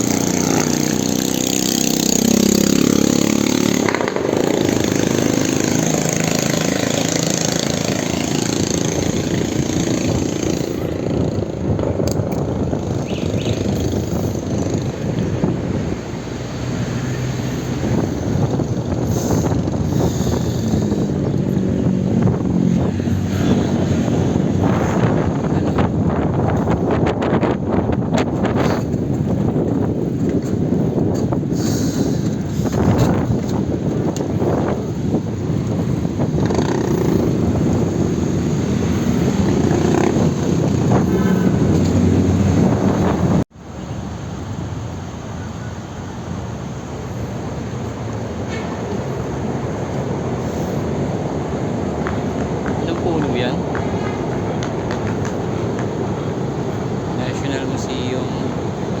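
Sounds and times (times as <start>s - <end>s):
traffic engines humming: 0.0s - 59.0s
wind rushing over microphone: 0.0s - 59.0s.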